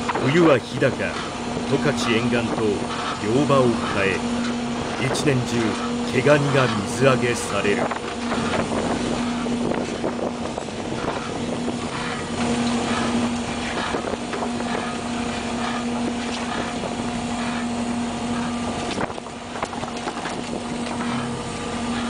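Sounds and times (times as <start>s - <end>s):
boat engine and machinery hum: 0.0s - 22.0s
wind and water noise: 0.0s - 22.0s.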